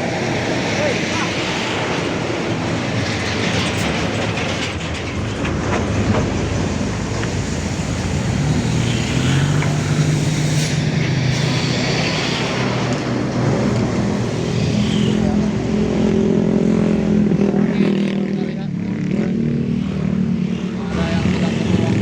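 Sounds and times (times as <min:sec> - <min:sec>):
truck diesel engine climbing: 0:00.0 - 0:22.0.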